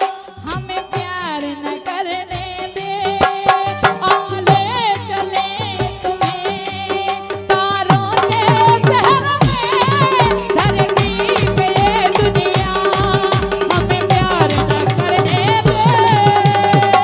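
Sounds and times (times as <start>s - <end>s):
rattling percussion: 0.0s - 17.0s
woman singing through microphone: 0.0s - 17.0s
drum strokes: 2.4s - 17.0s.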